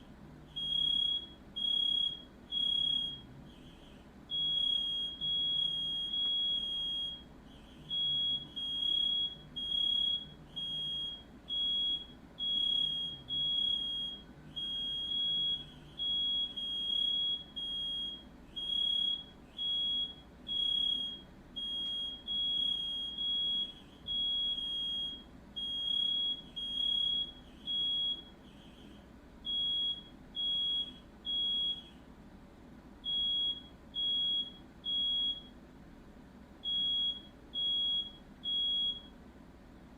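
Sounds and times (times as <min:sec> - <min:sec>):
smoke alarm beeping: 0:00.5 - 0:32.0, 0:33.0 - 0:35.6, 0:36.6 - 0:39.1.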